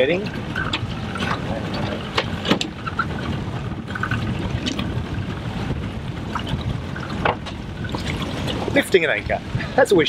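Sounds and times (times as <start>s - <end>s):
outboard motor running: 0.0s - 9.8s
water lapping against hull: 0.0s - 10.0s
wind buffeting microphone: 0.0s - 10.0s.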